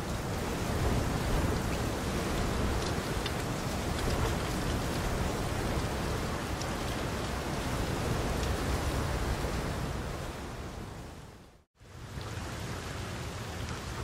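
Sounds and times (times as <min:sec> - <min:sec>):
rain falling on water: 0:00.0 - 0:14.0.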